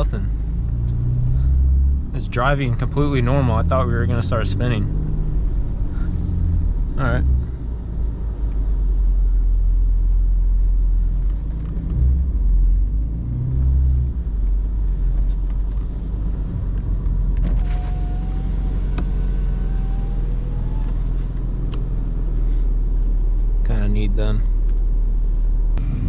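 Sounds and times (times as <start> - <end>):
car engine and tyres droning: 0.0 - 26.0.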